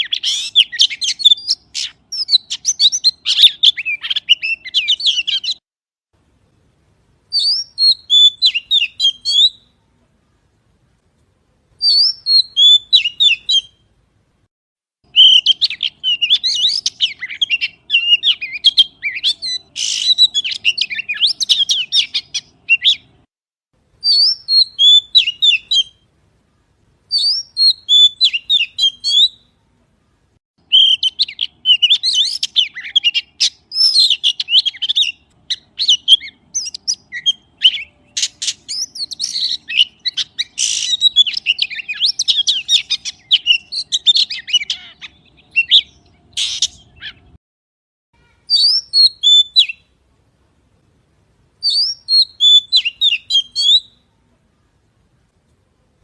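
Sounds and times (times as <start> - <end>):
magpie song: 0.0 - 5.6, 7.3 - 9.8, 11.8 - 13.9, 15.0 - 23.3, 24.0 - 26.1, 27.1 - 29.6, 30.6 - 47.4, 48.2 - 50.0, 51.6 - 54.9.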